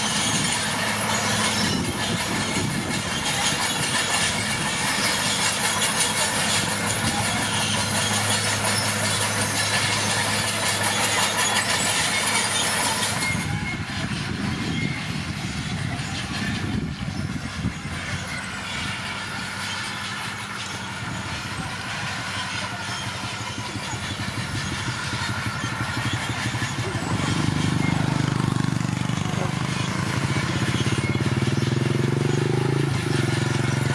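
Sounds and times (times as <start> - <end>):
bulldozer diesel engine under load: 0.0 - 33.9
rough mechanical clatter: 0.0 - 33.9.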